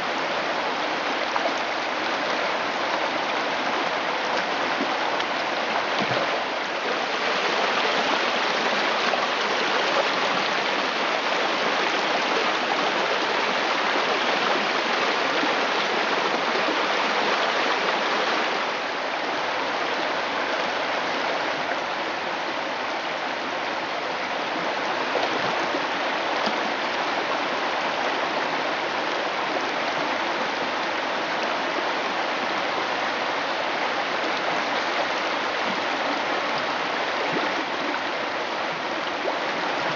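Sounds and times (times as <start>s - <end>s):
river water flowing over gravel: 0.0s - 39.9s.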